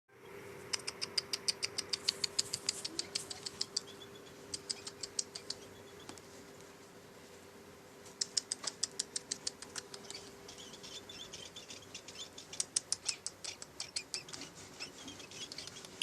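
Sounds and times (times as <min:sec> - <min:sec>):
heron clicking chirps: 0:00.7 - 0:06.2, 0:08.2 - 0:16.0.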